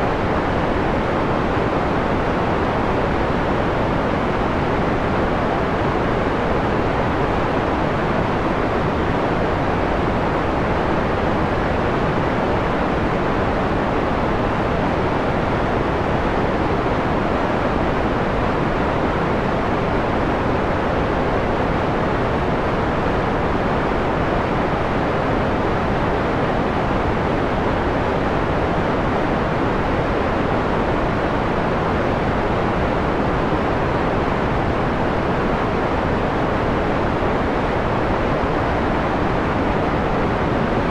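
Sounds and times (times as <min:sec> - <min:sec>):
filtered white noise hiss: 0:00.0 - 0:40.9.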